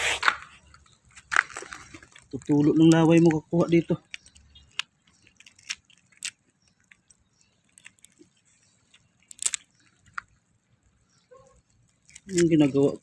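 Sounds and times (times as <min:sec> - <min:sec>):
mussel shells clacking on rock: 0:00.2 - 0:13.0.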